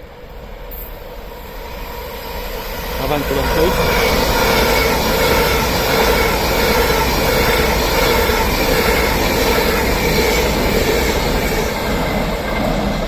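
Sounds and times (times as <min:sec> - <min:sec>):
electric train passing: 0:00.0 - 0:13.0
steady train whine: 0:00.0 - 0:13.0.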